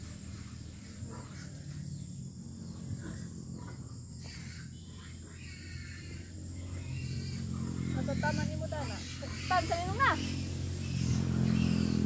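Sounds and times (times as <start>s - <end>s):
faint bird calls: 0.0s - 12.0s
faint insect calls: 0.0s - 12.0s.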